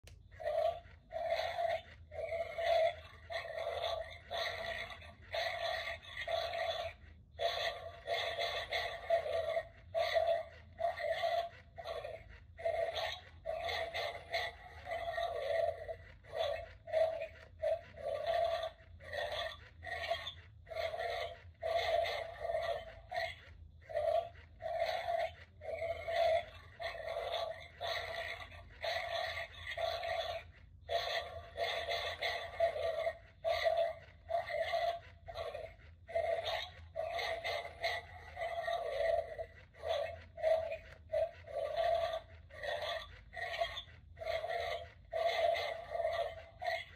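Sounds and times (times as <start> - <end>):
recorded dog snarls and growls: 0.1 - 46.9.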